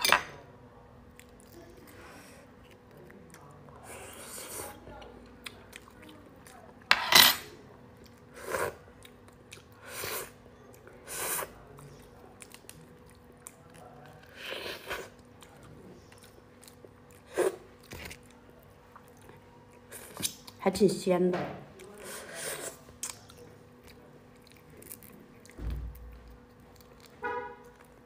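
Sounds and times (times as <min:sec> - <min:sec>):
chewing: 0:01.1 - 0:06.9, 0:08.0 - 0:11.0, 0:11.6 - 0:20.6, 0:21.8 - 0:28.0.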